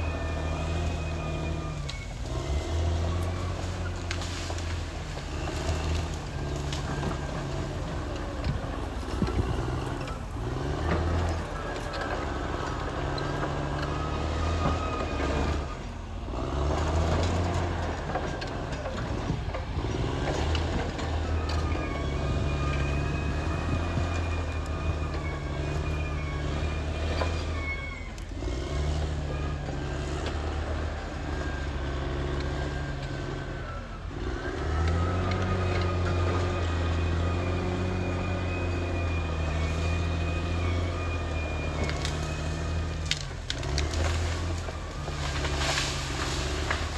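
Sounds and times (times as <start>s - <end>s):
bulldozer diesel engine revving: 0.0s - 46.9s.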